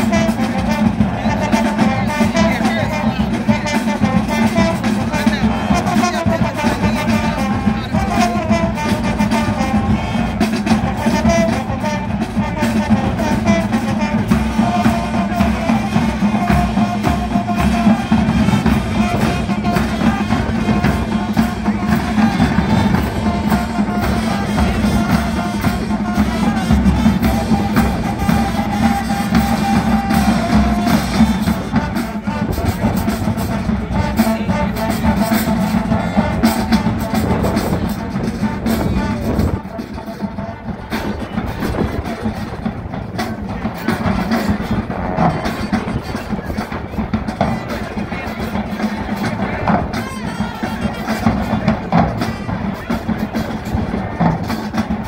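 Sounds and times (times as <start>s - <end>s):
brass melody: 0.0s - 55.0s
drumline beating: 0.0s - 55.0s.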